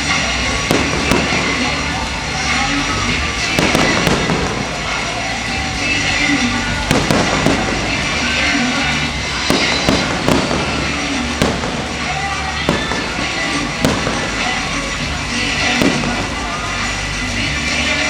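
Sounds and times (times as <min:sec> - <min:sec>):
fireworks bangs: 0:00.0 - 0:18.0
music playing: 0:00.0 - 0:18.0.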